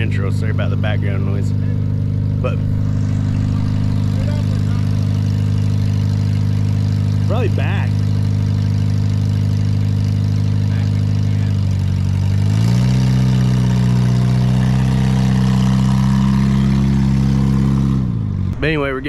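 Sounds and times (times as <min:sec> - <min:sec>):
truck engine idling and revving: 0:00.0 - 0:19.0.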